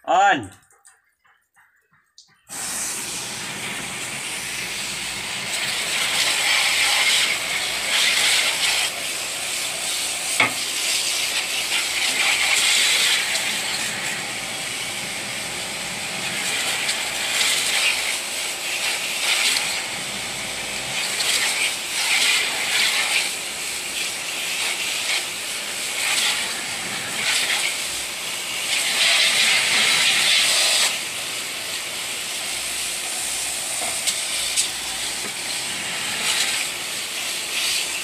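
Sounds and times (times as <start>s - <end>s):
water jet hissing on metal fins: 2.5s - 38.0s.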